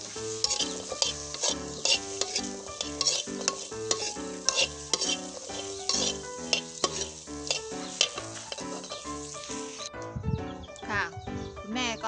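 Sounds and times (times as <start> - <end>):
metal spatula scraping wok: 0.0 - 10.0
food sizzling: 0.0 - 10.1.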